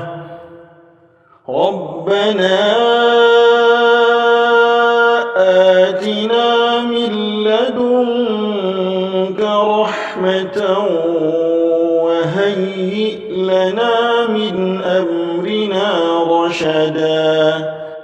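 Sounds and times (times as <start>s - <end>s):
man reciting in melodic chant: 0.0s - 18.0s.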